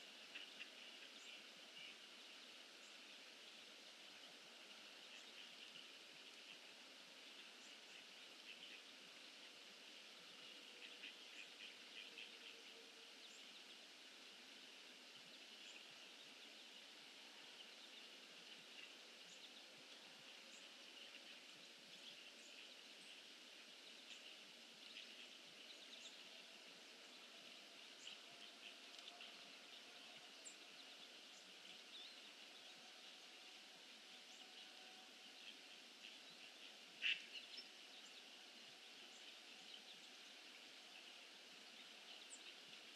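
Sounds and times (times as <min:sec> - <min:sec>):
tiny ticks and chirps: 0:00.0 - 0:33.3, 0:34.0 - 0:42.9
steady hiss: 0:00.0 - 0:42.9.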